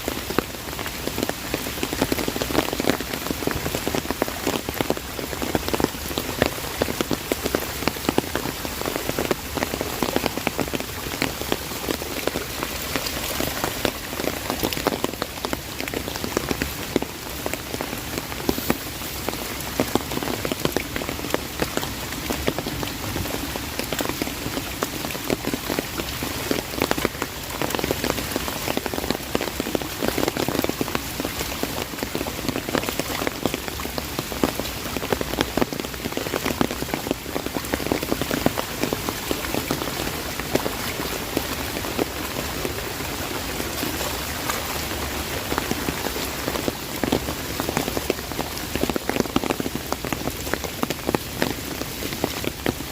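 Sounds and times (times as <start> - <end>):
heavy rain on an umbrella: 0.0 - 52.9.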